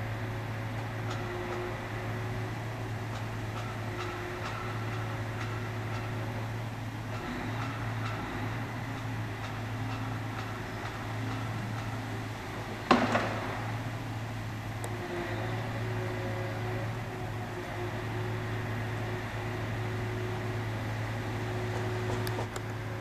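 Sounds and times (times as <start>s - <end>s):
crane engine running: 0.0s - 23.0s.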